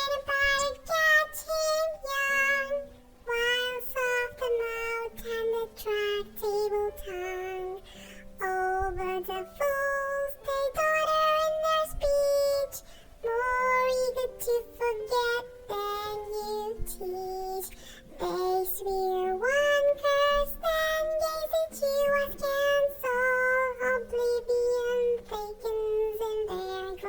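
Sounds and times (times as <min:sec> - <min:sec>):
high child-like singing voice: 0:00.0 - 0:27.0
soft low accompaniment notes: 0:00.0 - 0:27.0.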